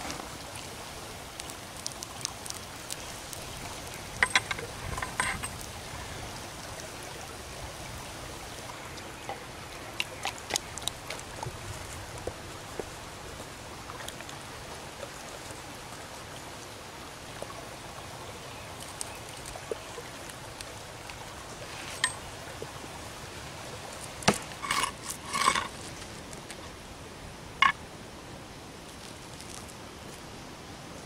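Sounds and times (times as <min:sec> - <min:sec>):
creek water flowing over rocks: 0:00.0 - 0:31.0.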